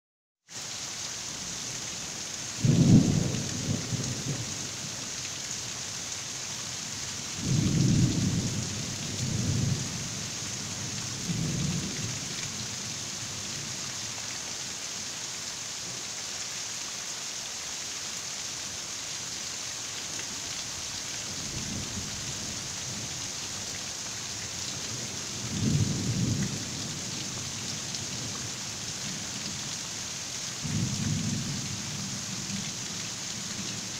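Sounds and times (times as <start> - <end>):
heavy rain hissing: 0.5 - 33.9.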